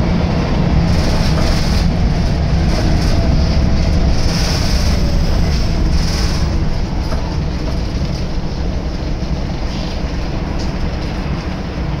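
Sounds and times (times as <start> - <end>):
bus body rattling: 0.0 - 12.0
bus diesel engine: 0.0 - 12.0
road rumble: 0.0 - 12.0.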